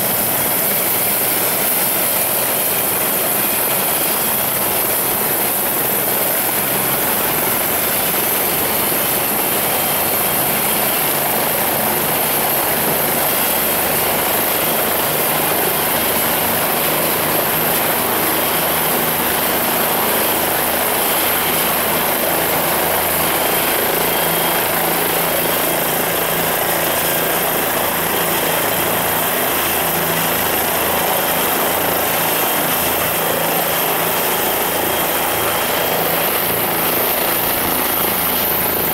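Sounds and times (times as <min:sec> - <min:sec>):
helicopter rotor drone: 0:00.0 - 0:38.9
helicopter turbine whine: 0:00.0 - 0:38.9.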